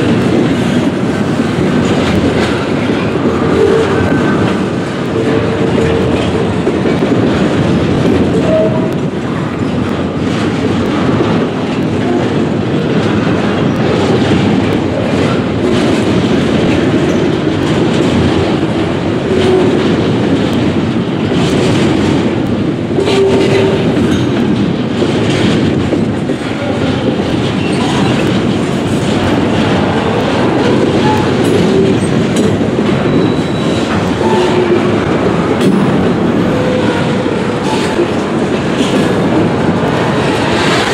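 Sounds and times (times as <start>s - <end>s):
freight train rumbling past: 0.0s - 40.9s
wheels clacking over rail joints: 0.0s - 40.9s.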